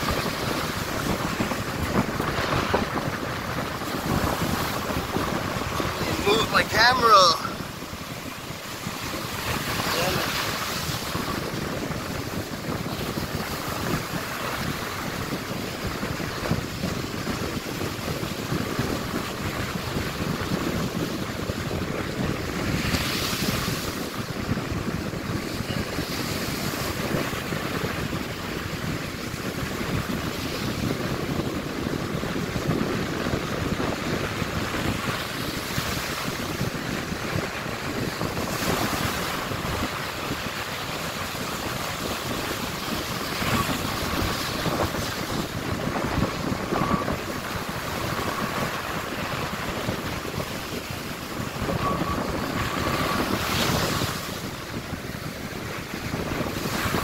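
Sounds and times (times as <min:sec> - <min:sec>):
ocean waves breaking: 0:00.0 - 0:57.0
wind buffeting microphone: 0:00.0 - 0:57.0.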